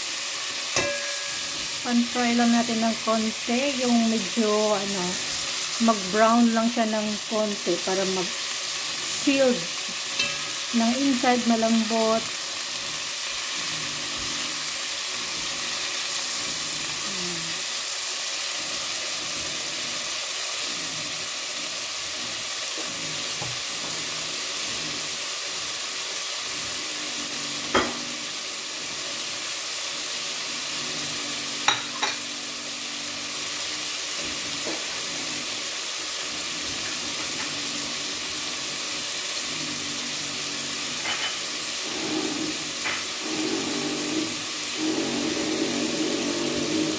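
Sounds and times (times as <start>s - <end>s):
beef sizzling in hot oil: 0.0s - 46.9s.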